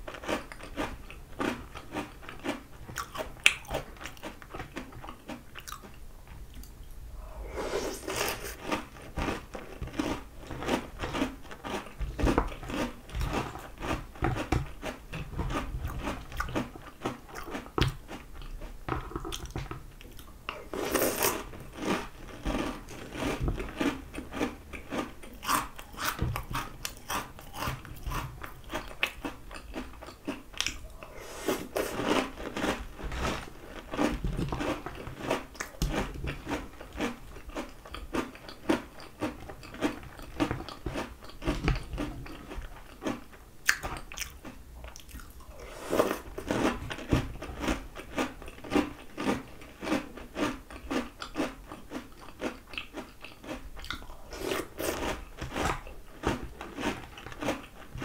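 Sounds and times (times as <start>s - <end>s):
crunching cereal: 0.0s - 6.0s, 7.4s - 19.7s, 20.5s - 58.0s.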